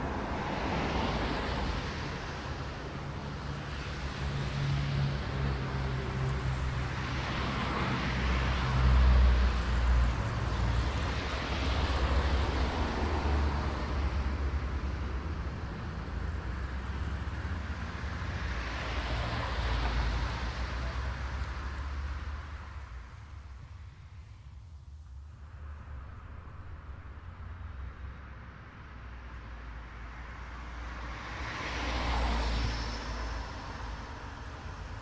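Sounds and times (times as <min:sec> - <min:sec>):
cars passing: 0:00.0 - 0:24.4, 0:25.1 - 0:35.0
steady low traffic rumble: 0:00.0 - 0:31.5.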